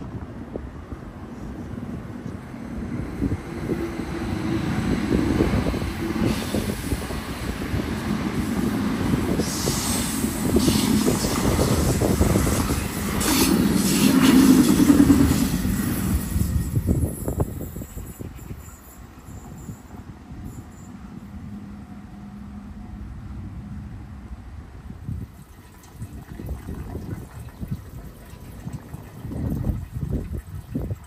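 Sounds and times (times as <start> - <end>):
train rumble: 0.0 - 30.4.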